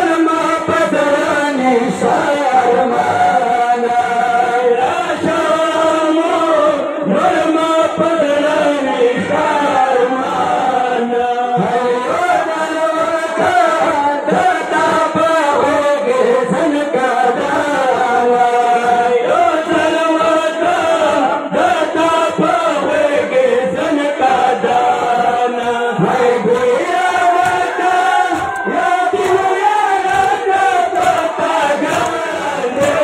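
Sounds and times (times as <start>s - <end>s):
men chanting a lament: 0.0s - 33.0s.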